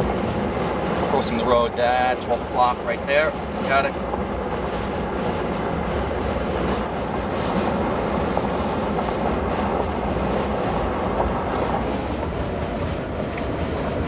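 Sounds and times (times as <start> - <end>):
vehicle road and wind noise: 0.0 - 14.0.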